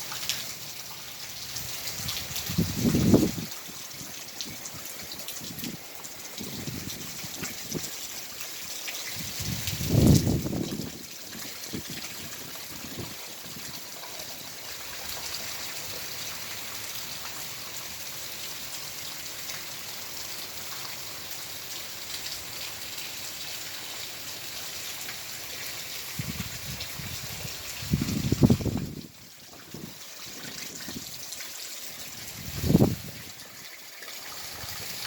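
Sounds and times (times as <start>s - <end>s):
heavy rain falling: 0.0s - 35.0s
water trickling: 0.0s - 35.0s.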